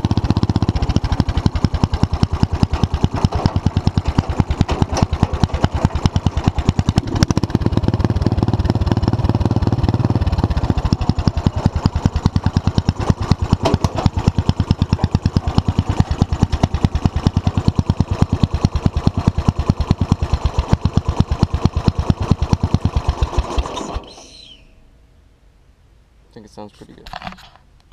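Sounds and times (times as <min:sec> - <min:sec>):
small engine revving and idling: 0:00.0 - 0:24.5.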